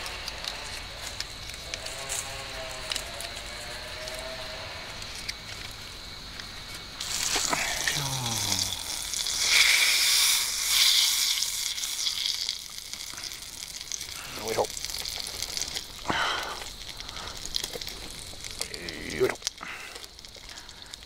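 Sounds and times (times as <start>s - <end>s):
butter sizzling in a pot: 0.0s - 21.0s.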